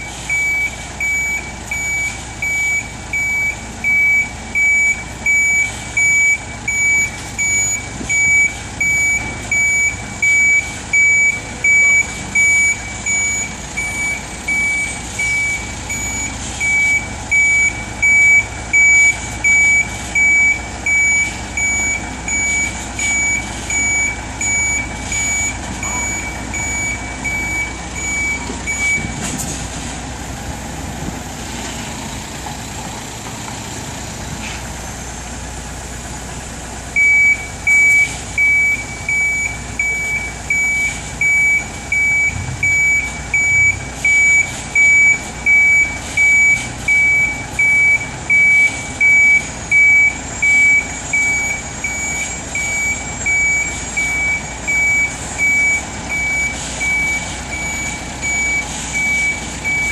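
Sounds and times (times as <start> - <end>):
reversing alarm beeping: 0.0 - 29.4, 36.9 - 59.9
lorry engine running: 0.0 - 59.9.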